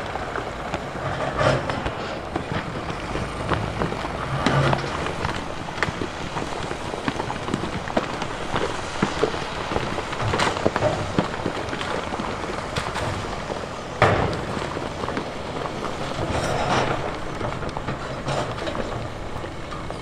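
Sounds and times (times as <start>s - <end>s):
rock and gravel clattering: 0.0s - 20.0s.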